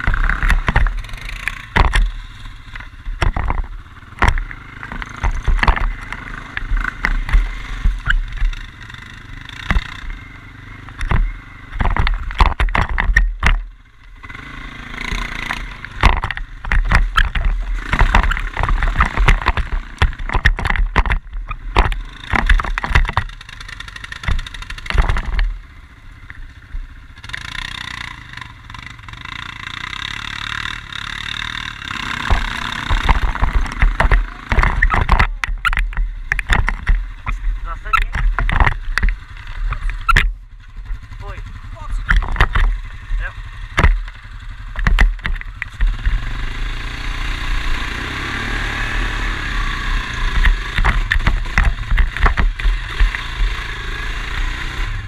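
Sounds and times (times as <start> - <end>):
knocks and clatter: 0.0 - 10.2, 10.8 - 13.8, 15.1 - 25.6, 31.6 - 46.6, 49.0 - 55.0
quad bike engine running: 0.0 - 55.0.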